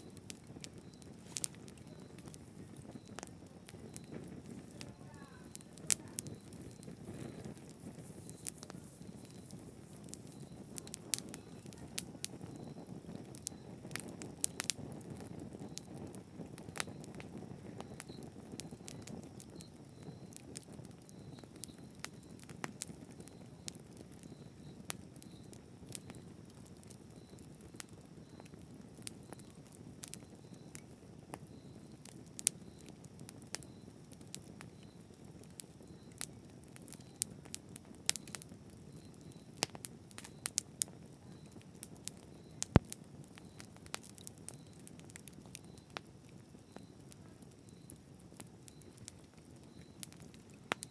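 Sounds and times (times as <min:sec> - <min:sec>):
fire crackling and popping: 0:00.0 - 0:50.9
wood fire burning: 0:00.0 - 0:50.9.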